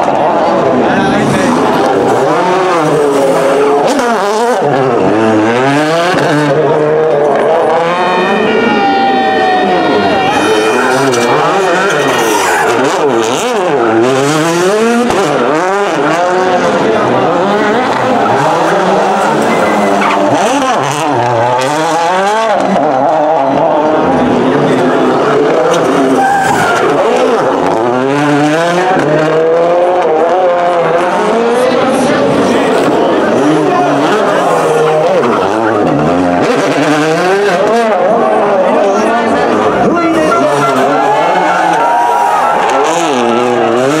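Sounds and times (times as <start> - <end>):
rally car engine revving: 0.0 - 44.0
tyre noise: 0.0 - 44.0.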